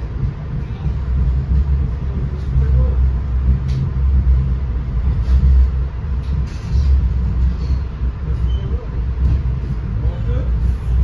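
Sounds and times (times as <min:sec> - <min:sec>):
train coach rumbling on rails: 0:00.0 - 0:11.0.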